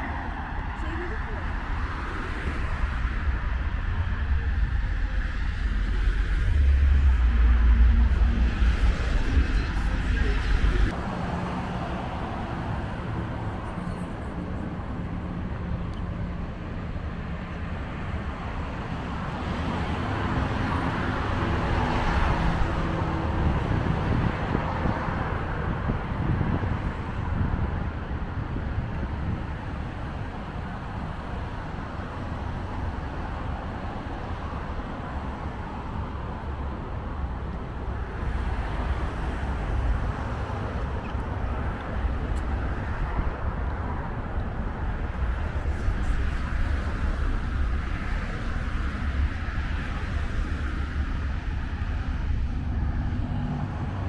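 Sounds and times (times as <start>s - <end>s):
cars passing on road: 0.0s - 54.0s
engine hum: 0.0s - 54.0s.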